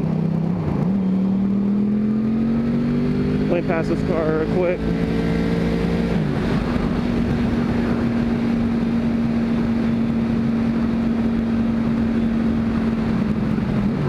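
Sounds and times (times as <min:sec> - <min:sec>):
motorcycle engine running: 0:00.0 - 0:14.0
wind rush on microphone: 0:02.3 - 0:14.0.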